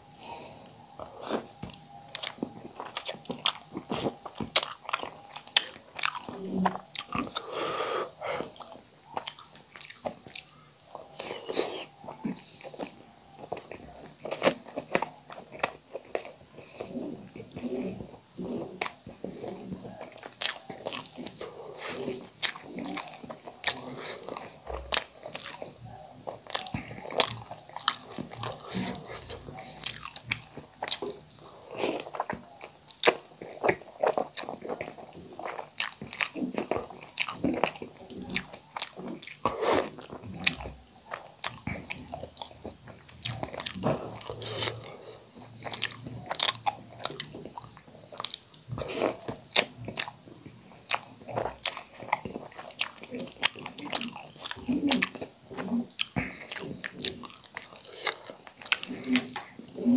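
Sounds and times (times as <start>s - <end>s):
wet chewing and smacking: 0.5s - 7.5s, 8.4s - 59.9s.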